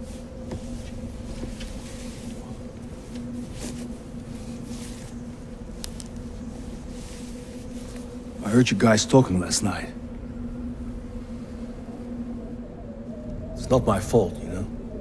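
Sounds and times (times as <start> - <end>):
faint rustling: 0.0 - 13.4
steady low rumble: 0.0 - 15.0
two-tone hum: 0.0 - 15.0.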